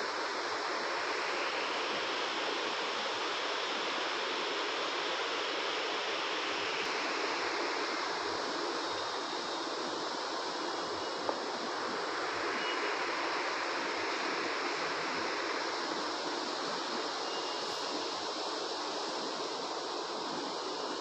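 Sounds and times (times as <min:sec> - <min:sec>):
steady rushing hiss: 0:00.0 - 0:21.0.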